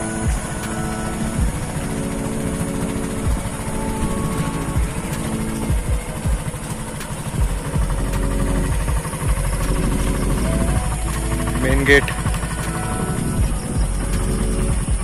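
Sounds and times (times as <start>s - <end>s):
vehicle engine running: 0.0s - 15.0s
wind buffeting microphone: 0.0s - 15.0s.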